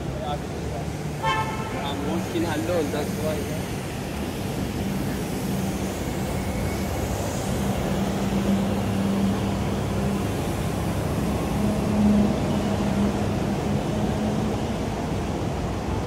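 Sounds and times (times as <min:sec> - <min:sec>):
city street noise: 0:00.0 - 0:16.0
vehicle engine humming: 0:00.0 - 0:16.0.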